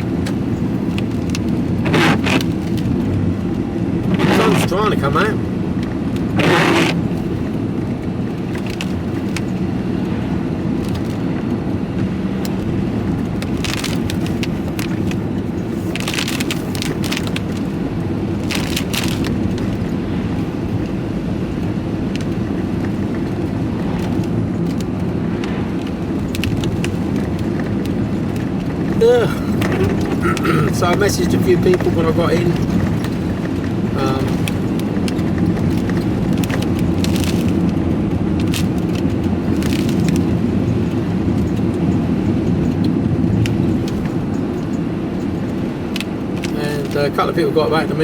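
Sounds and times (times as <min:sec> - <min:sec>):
diesel engine hum: 0:00.0 - 0:48.0
road noise inside cab: 0:00.0 - 0:48.0.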